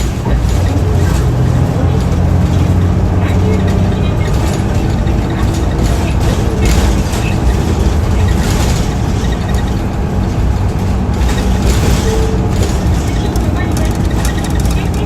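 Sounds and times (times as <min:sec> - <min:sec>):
bus engine rumbling: 0:00.0 - 0:15.0
road noise: 0:00.0 - 0:15.0.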